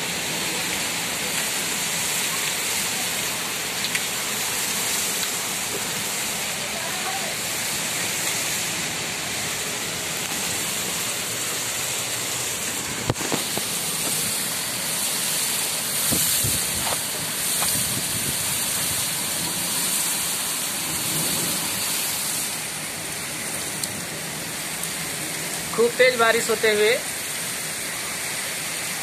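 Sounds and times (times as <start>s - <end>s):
heavy rain on a rooftop: 0.0s - 29.0s.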